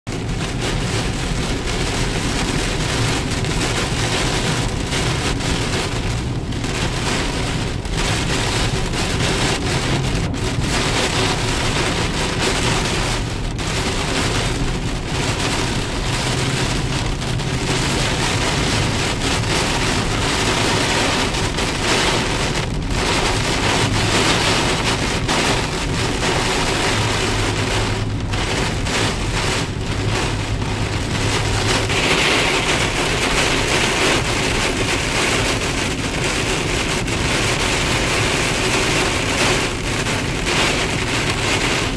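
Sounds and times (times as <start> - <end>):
engine and tyres hum: 0.0 - 41.9
heavy rain on car roof: 0.0 - 41.9.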